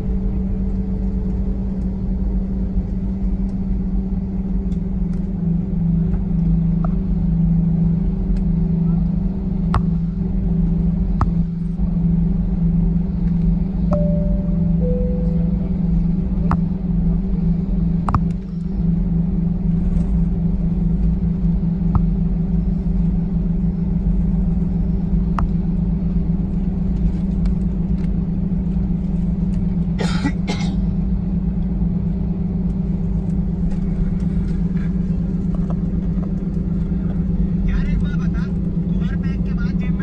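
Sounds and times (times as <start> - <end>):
airplane cabin hum: 0.0 - 40.0.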